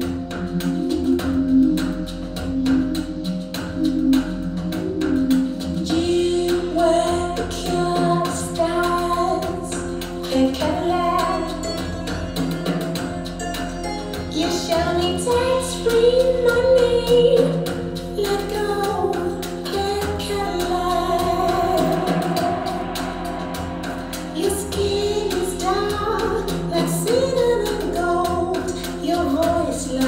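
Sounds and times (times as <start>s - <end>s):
song with female singer: 4.8s - 30.0s.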